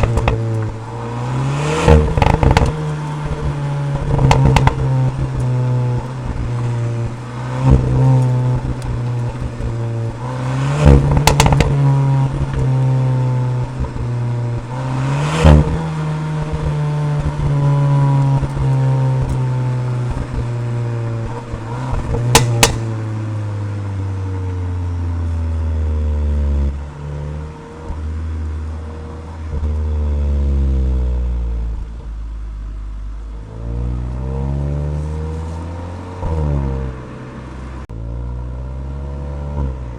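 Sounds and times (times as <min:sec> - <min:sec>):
exhaust cracks: 0:00.0 - 0:38.2
car engine revving: 0:00.0 - 0:39.9.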